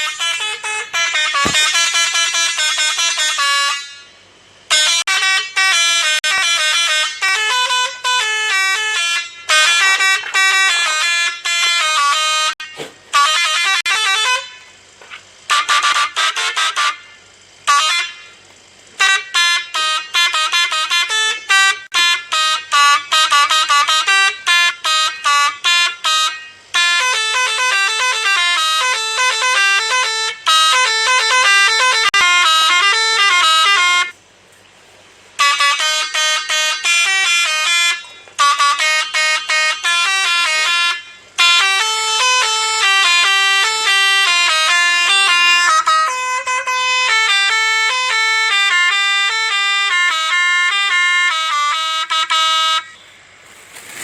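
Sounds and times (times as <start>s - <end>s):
multi-trumpet bus horn melody: 0.0s - 34.5s, 35.3s - 54.0s.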